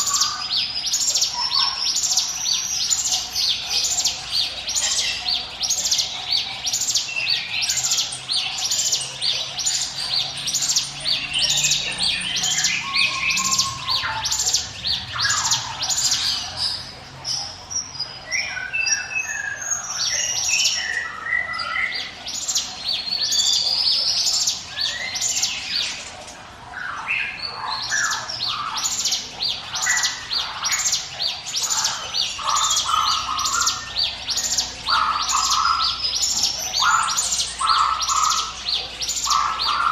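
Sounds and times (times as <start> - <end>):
bird singing sharp repeated notes: 0.0 - 39.9.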